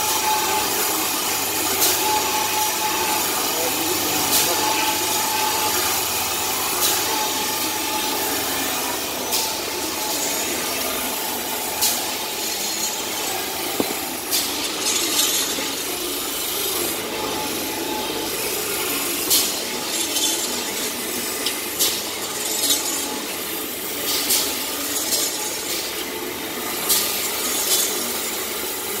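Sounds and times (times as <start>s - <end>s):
machine hum and hiss: 0.0s - 29.0s.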